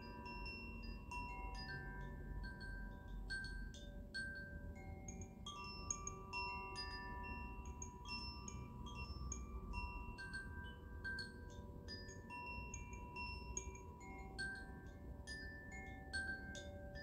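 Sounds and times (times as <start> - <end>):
chimes tinkling: 0.0 - 17.0.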